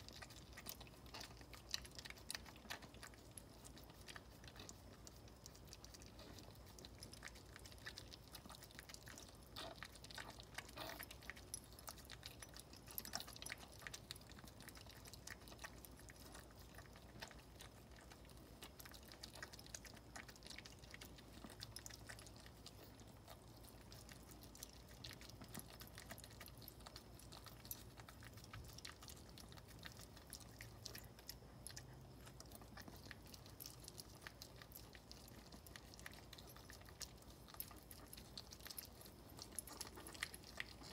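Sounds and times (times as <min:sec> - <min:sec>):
dog licking wetly: 0:00.0 - 0:40.9.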